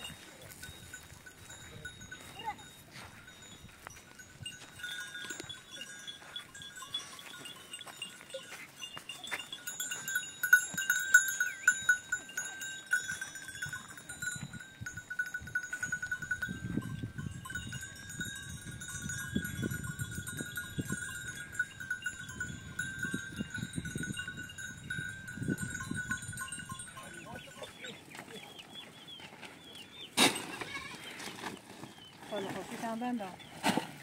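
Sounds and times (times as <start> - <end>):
goat bells clanking and jingling: 0.0 - 33.5.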